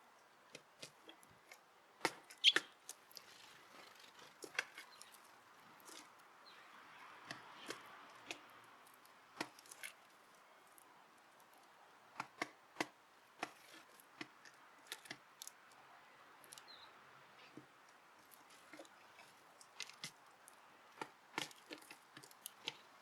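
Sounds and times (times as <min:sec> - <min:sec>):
birds pecking seed: 0:00.2 - 0:23.0.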